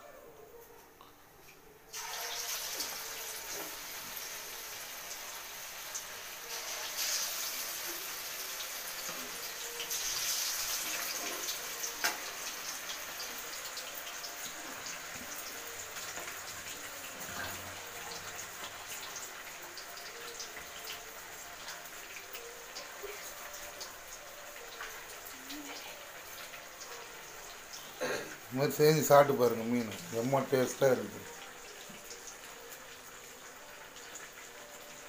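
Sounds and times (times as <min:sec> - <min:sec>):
hot oil sizzling: 0:01.9 - 0:35.0.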